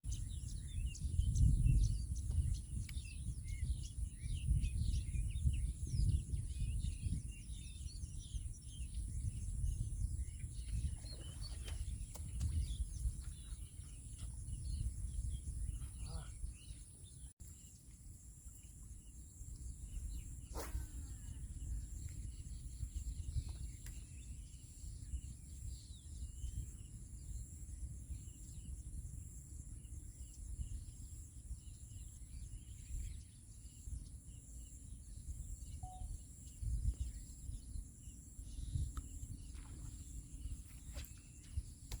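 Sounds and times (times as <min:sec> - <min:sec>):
faint bird chirps: 0:00.1 - 0:42.0.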